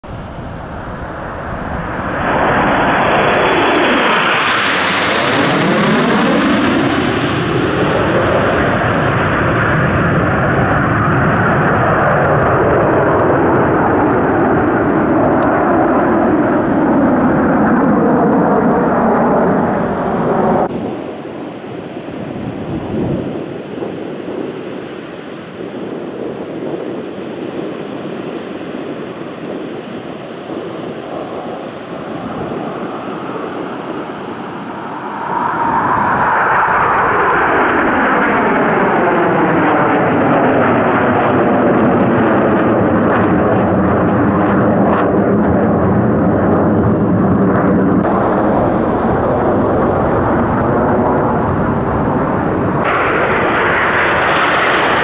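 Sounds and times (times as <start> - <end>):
distant jet noise: 0.0 - 55.0
jet engines flying past: 0.0 - 55.0
wind: 0.0 - 55.0.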